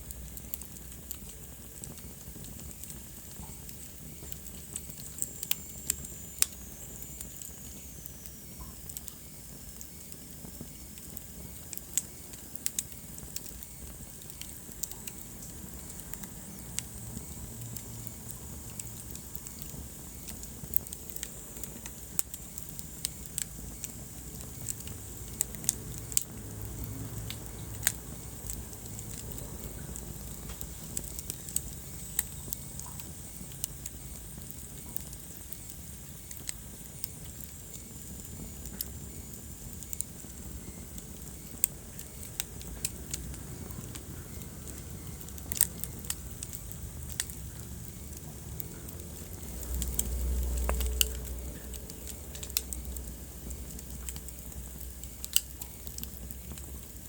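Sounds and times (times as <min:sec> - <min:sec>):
fire pops and snaps: 0:00.0 - 0:57.0
low rumble of flames: 0:00.0 - 0:57.0
wood fire crackling: 0:00.0 - 0:57.0.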